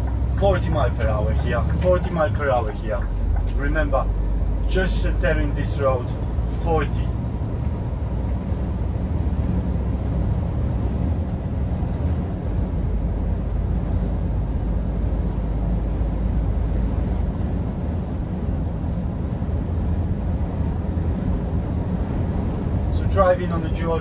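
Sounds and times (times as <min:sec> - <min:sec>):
lorry diesel engine drone: 0:00.0 - 0:24.0
road and tyre noise: 0:00.0 - 0:24.0.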